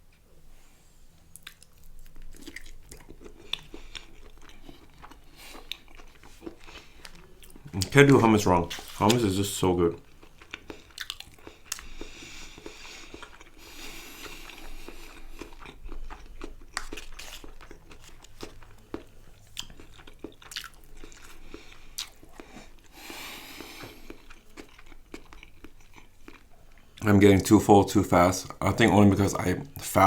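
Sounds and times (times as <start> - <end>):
person chewing food: 1.2 - 27.0.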